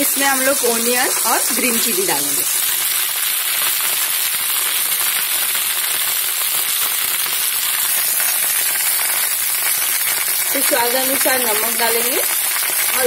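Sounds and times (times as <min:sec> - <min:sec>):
vegetables frying in hot oil: 0:00.0 - 0:13.0.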